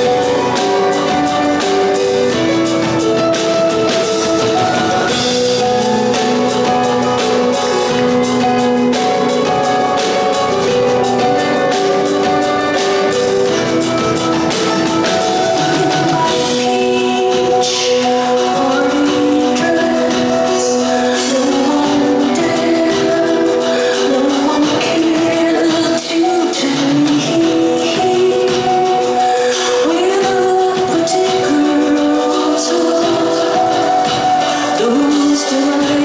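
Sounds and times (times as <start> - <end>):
bass guitar: 0.0 - 29.2
drum kit steady beat: 0.0 - 36.0
grand piano: 0.0 - 36.0.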